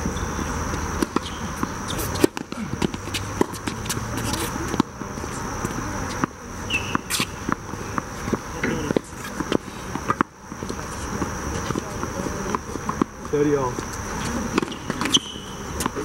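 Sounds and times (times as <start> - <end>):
high drone of insects: 0.0 - 16.0
tennis balls bouncing on hard court: 0.0 - 16.0
tennis balls struck with rackets: 0.1 - 16.0.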